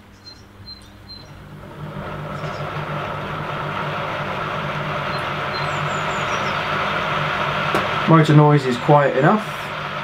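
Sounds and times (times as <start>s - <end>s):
model train motor whirring hum: 1.2s - 10.0s.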